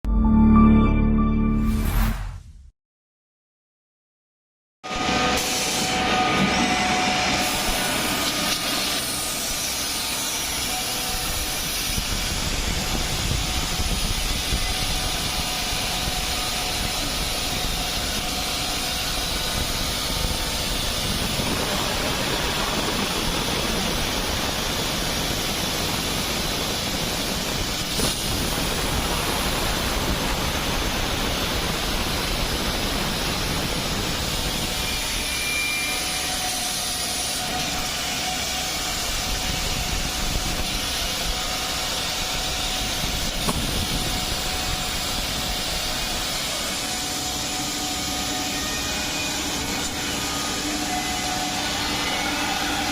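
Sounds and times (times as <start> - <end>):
cnc machine mechanical noise: 5.0 - 52.9.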